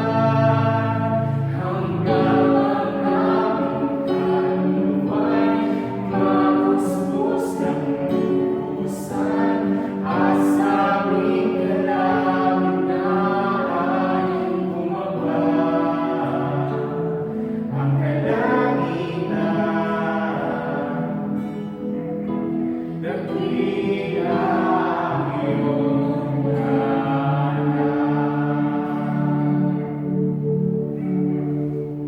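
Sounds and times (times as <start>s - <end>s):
choir singing a worship song: 0.0s - 32.0s.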